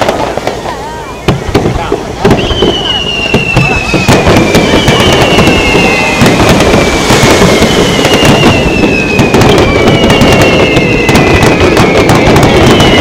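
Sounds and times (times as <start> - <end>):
falling firework whistles: 0.0 - 13.0
fireworks crackling: 0.0 - 13.0
fireworks launching and bursting: 0.0 - 13.0.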